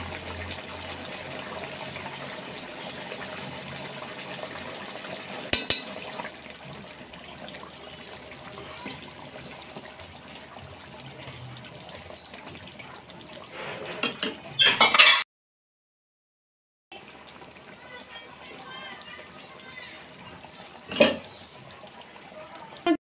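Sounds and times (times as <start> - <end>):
curry simmering and bubbling: 0.0 - 14.6, 17.0 - 23.0.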